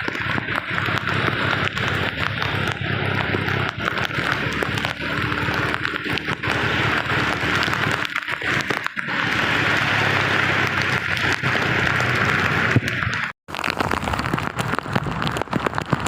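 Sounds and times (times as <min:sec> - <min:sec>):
heavy rain pouring: 0:00.0 - 0:16.0
raindrops crackling near microphone: 0:00.0 - 0:16.0.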